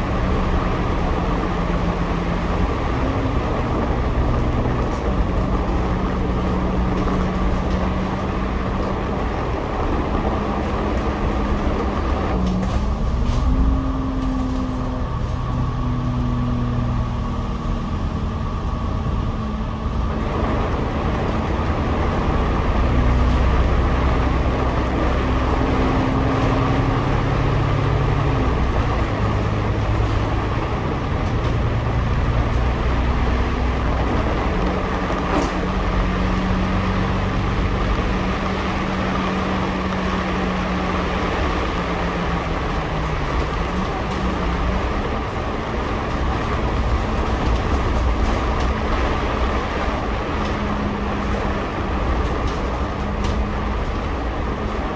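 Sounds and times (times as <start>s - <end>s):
bus engine and road drone: 0.0s - 54.9s.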